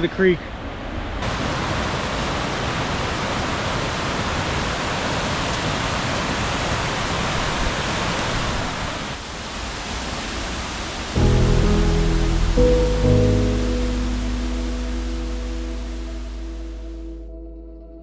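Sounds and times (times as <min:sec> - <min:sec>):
creek water rushing over falls: 0:01.2 - 0:16.9.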